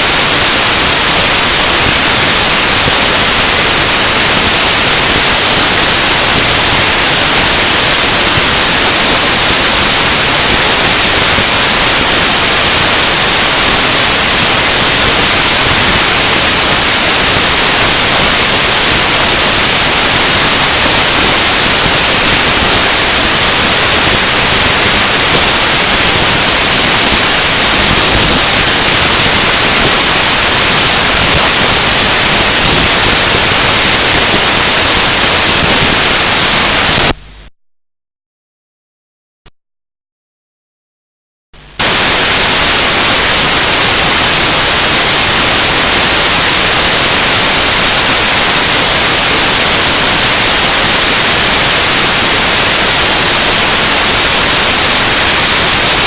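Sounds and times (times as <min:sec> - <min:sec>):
harsh noise music static: 0:00.0 - 0:37.5, 0:41.6 - 0:56.0.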